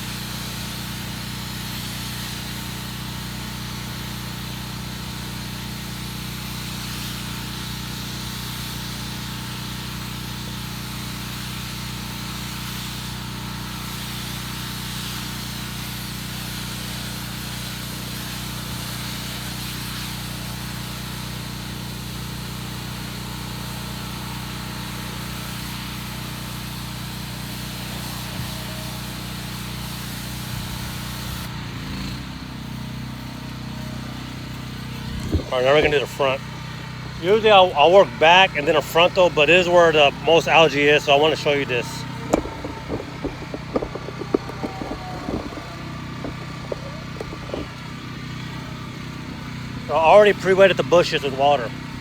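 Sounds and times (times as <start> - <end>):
pressure washer engine running: 0.0 - 52.0.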